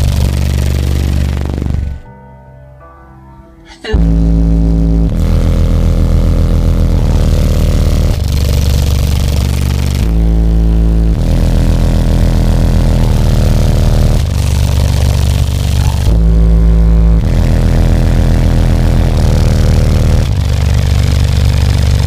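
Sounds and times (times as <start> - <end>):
distorted rattle: 0.0 - 2.1, 4.0 - 22.0
loud bass music: 0.0 - 2.2, 3.9 - 22.0.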